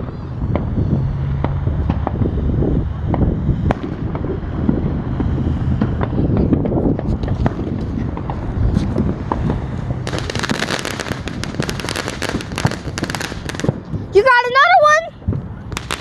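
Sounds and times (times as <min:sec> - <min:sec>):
fireworks crackling and popping: 0:00.0 - 0:16.0
wind buffeting microphone: 0:00.0 - 0:16.0.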